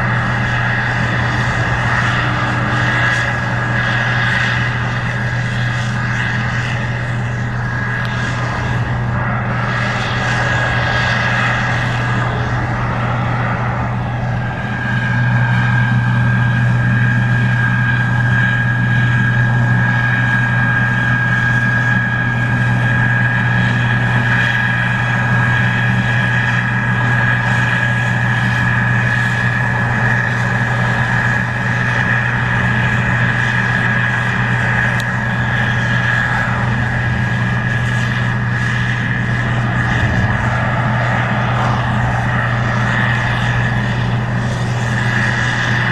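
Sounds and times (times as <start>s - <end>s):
combine engine droning: 0.0s - 45.9s
machinery high whine: 0.0s - 45.9s.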